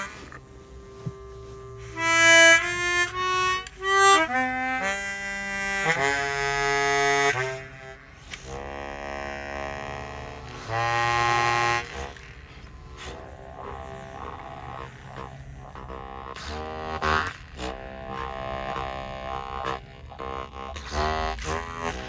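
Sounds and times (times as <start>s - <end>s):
bass harmonica with reverb: 0.0s - 22.0s.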